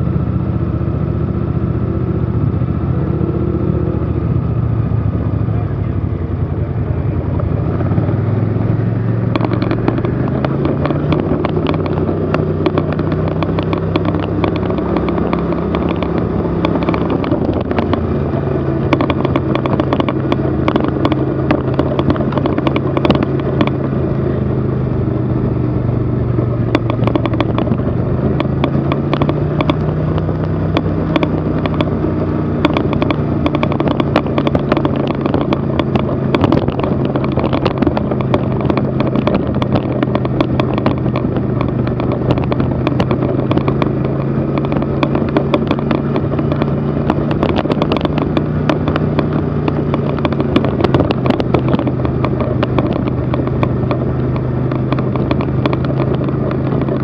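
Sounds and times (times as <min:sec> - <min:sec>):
vehicle engine humming: 0:00.0 - 0:57.0
rattles and knocks: 0:09.0 - 0:57.0.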